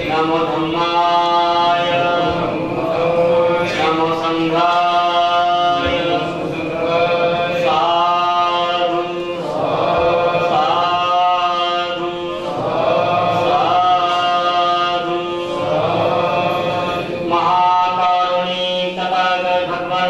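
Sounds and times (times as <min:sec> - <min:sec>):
man chanting into a microphone: 0:00.0 - 0:20.0.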